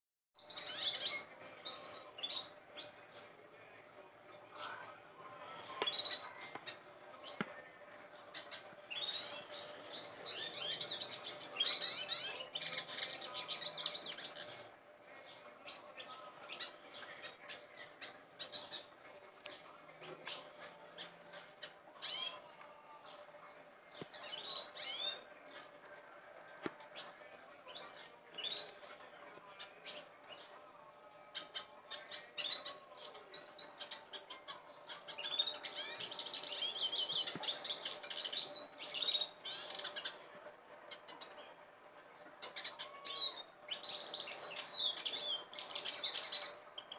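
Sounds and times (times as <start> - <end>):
songbirds chirping and singing: 0.4 - 46.9.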